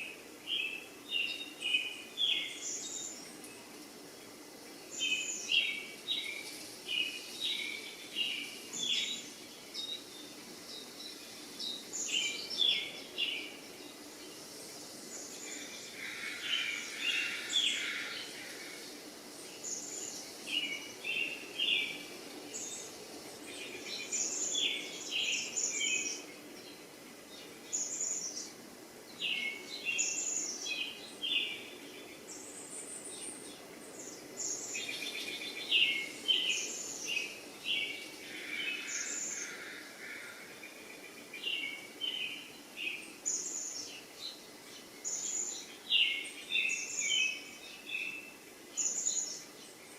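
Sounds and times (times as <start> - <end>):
faint steady background noise: 0.0 - 49.9.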